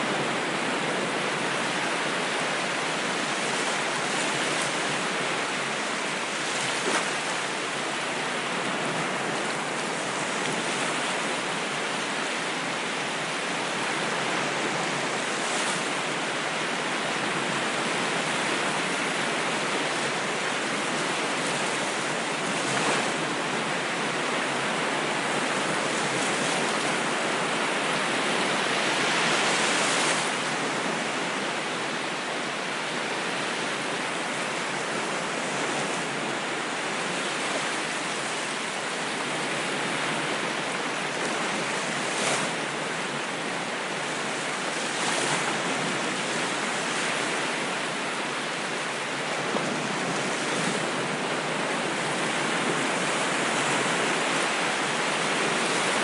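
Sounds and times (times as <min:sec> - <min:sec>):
ocean waves washing on shore: 0:00.0 - 0:56.0.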